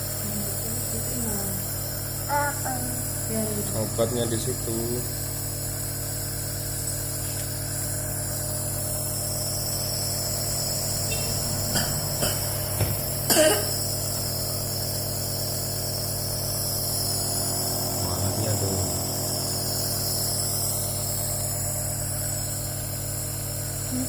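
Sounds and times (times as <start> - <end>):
nebulizer humming: 0.0 - 24.0.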